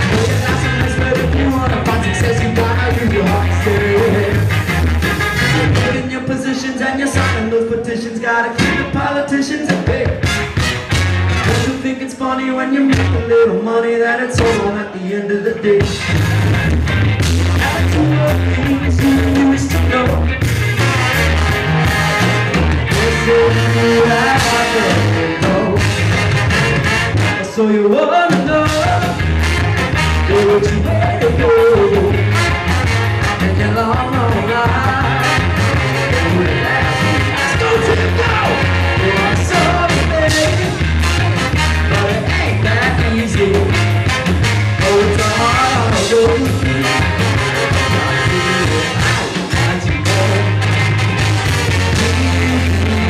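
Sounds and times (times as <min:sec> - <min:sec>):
saxophone: 0:00.0 - 0:06.2, 0:10.1 - 0:11.8, 0:15.9 - 0:27.6, 0:28.6 - 0:53.0
trombone: 0:00.0 - 0:06.2, 0:07.0 - 0:07.7, 0:10.0 - 0:11.8, 0:15.9 - 0:27.7, 0:28.5 - 0:53.0
trumpet: 0:00.0 - 0:09.3, 0:09.9 - 0:13.4, 0:15.8 - 0:53.0
bass: 0:00.0 - 0:53.0
drums: 0:00.0 - 0:53.0
electric guitar: 0:00.0 - 0:53.0.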